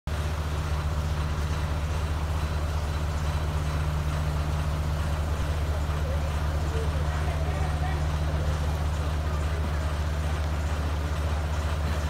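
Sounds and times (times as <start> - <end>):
heavy engine idling: 0.1 - 12.0.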